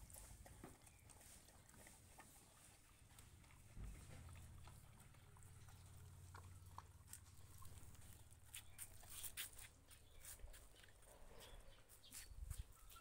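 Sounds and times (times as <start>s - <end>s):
dog chewing and licking: 0.0s - 12.1s.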